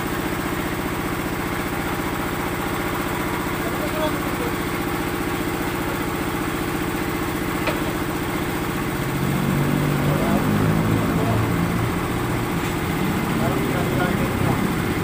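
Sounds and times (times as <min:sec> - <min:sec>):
small machinery engine running: 0:00.0 - 0:15.0
loud low hum: 0:02.3 - 0:15.0.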